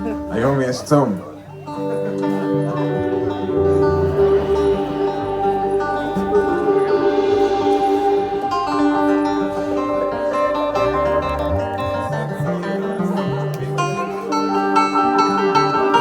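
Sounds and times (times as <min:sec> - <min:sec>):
instrumental guitar music: 0:00.0 - 0:16.0.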